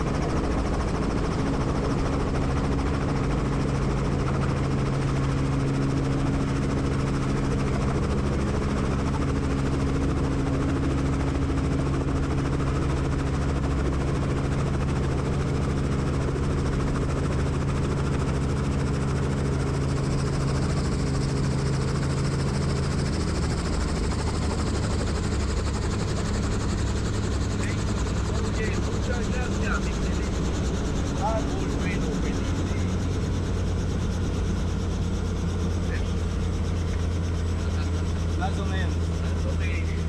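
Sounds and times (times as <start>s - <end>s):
helicopter turbine and rotors: 0.0s - 40.0s.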